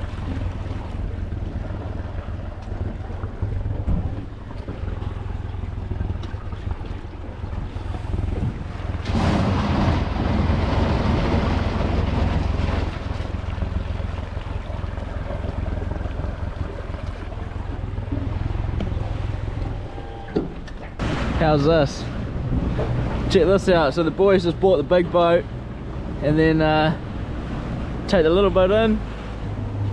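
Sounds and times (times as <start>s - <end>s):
outboard motor running: 0.0s - 29.9s
rush of wind and water: 0.0s - 29.9s
wind buffeting microphone: 0.0s - 29.9s.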